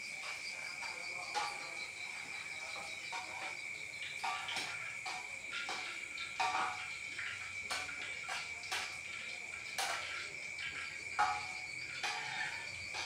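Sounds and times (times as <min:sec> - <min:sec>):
cricket trilling: 0:00.0 - 0:13.0
utensil knocking against a pan: 0:00.2 - 0:13.0.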